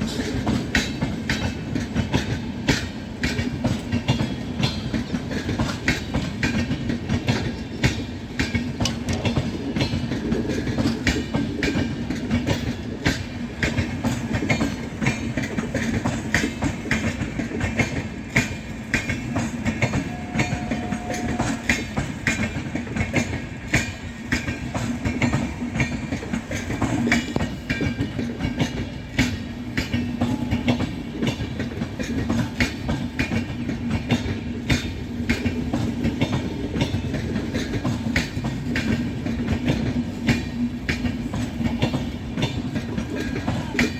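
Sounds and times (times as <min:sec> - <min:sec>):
train rumble: 0:00.0 - 0:43.9
train wheels clattering on rails: 0:00.0 - 0:43.9.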